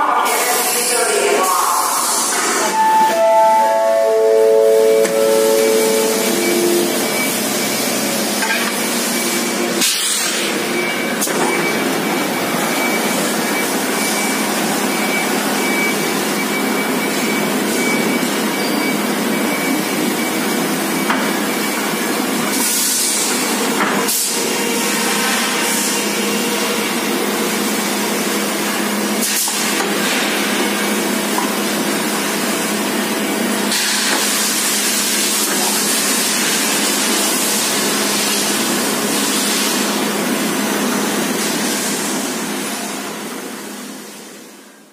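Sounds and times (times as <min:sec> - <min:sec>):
factory machinery din: 0:00.0 - 0:44.9.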